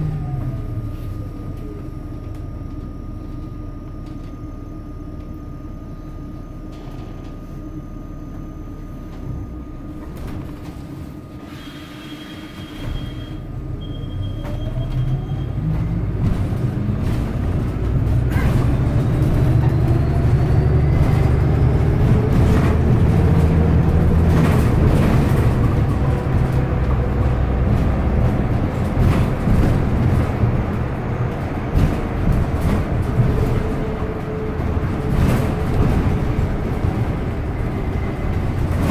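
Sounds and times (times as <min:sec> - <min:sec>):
bus drive drone with whine: 0:00.0 - 0:38.9.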